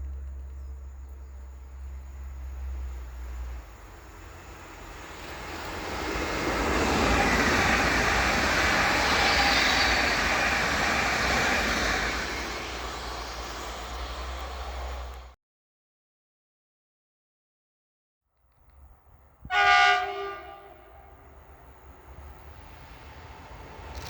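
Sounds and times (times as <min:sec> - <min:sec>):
train passing at speed: 0:00.0 - 0:15.4, 0:18.8 - 0:24.0.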